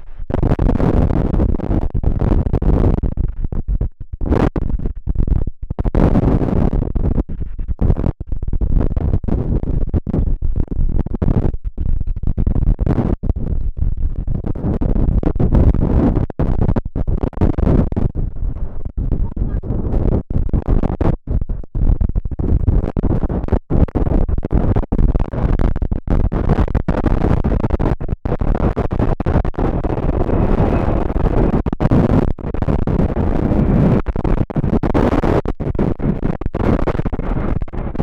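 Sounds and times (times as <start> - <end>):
gusty wind buffeting microphone: 0.0 - 38.0.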